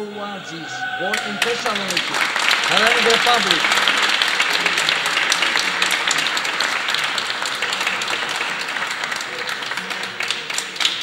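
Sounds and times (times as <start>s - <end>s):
audience applauding: 0.7s - 11.0s.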